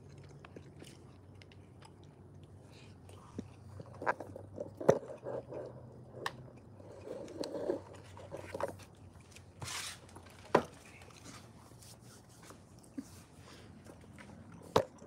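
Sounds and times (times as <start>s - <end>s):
person chewing food: 0.0s - 9.6s, 10.8s - 15.0s.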